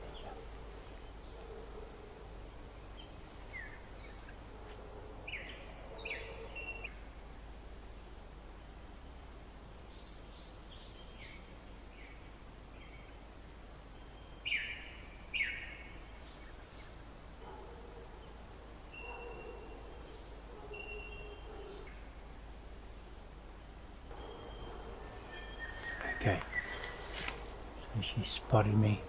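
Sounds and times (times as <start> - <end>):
birds calling: 0.0 - 7.0, 9.8 - 29.0.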